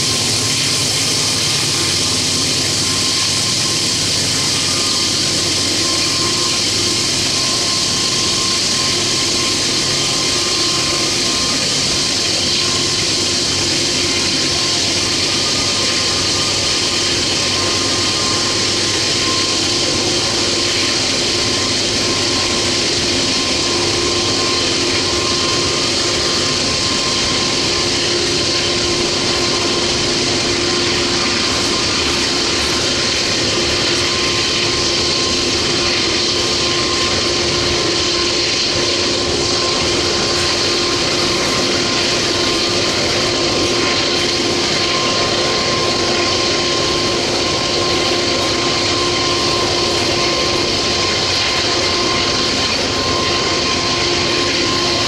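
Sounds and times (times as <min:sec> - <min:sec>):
constant whine: 0:00.0 - 0:55.0.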